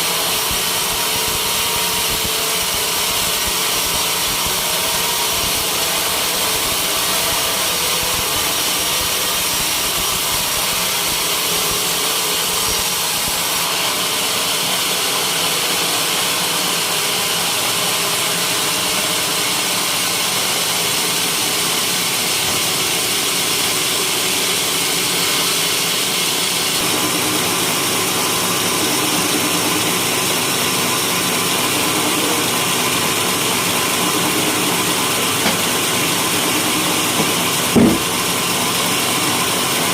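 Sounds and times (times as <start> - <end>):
sawmill cutting wood: 0.0 - 39.9.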